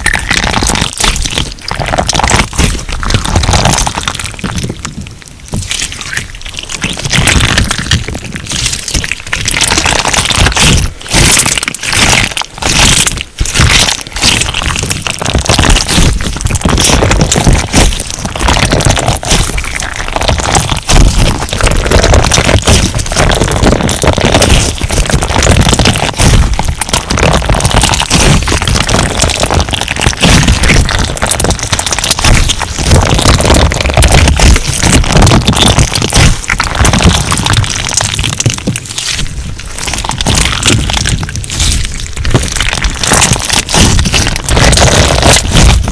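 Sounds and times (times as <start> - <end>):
slime crackling and popping: 0.0 - 45.9.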